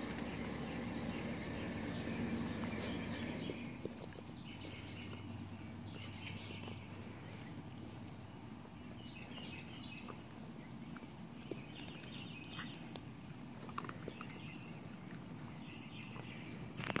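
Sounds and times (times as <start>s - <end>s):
birds chirping: 0.0s - 17.0s
puppies lapping water: 0.0s - 17.0s.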